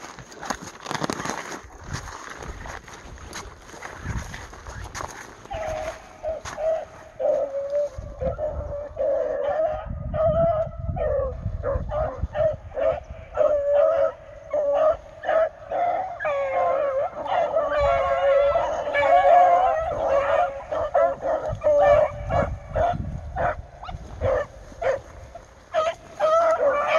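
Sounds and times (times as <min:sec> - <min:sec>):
hounds baying and yelping: 0:05.0 - 0:26.9.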